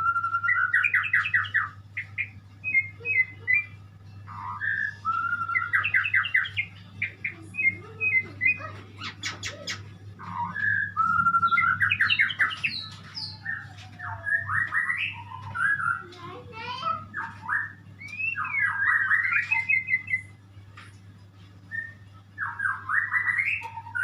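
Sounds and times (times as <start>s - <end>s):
songbird whistling and trilling: 0.0s - 20.4s, 21.7s - 24.0s
steady low hum: 0.0s - 24.0s.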